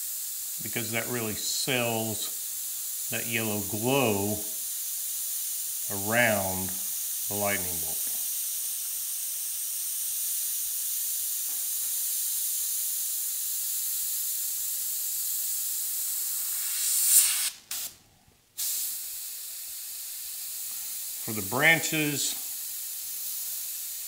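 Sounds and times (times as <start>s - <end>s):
airbrush hissing: 0.0s - 18.0s, 18.6s - 24.0s.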